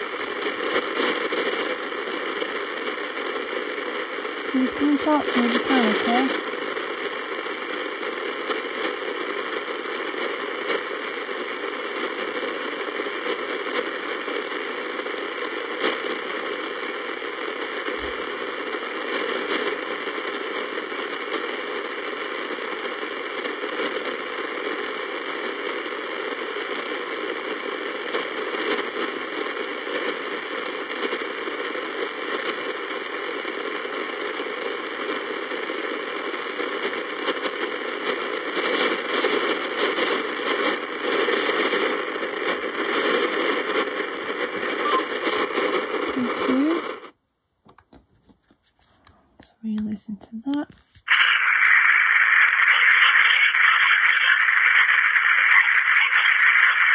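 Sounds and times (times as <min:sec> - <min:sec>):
radio static hiss: 0:00.0 - 0:56.9.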